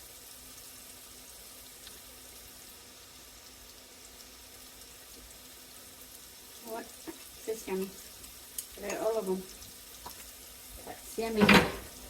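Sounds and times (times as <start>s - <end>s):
rice sizzling in pan: 0.0s - 12.0s.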